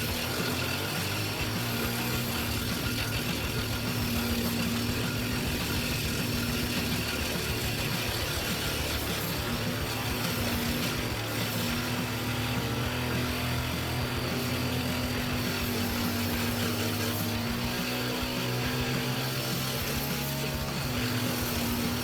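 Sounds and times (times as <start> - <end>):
heavy machine engine droning: 0.0 - 22.0.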